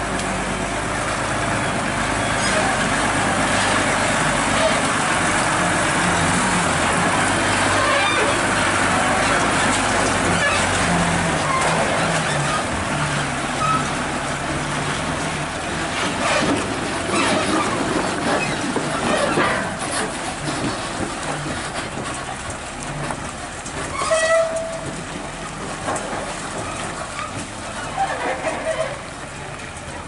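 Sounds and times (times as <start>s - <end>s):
truck diesel engine under load: 0.0s - 30.0s.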